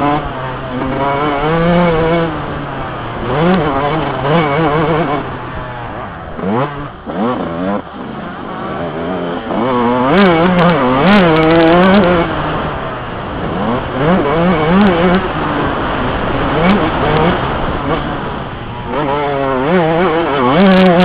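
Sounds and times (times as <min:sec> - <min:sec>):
motocross bike revving: 0:00.0 - 0:21.0.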